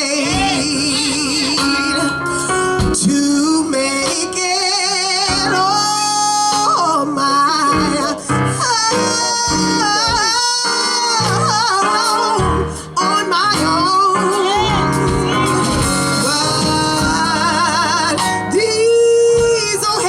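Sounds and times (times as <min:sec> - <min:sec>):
gospel group singing: 0:00.0 - 0:20.0
instrumental backing with bass: 0:00.0 - 0:20.0.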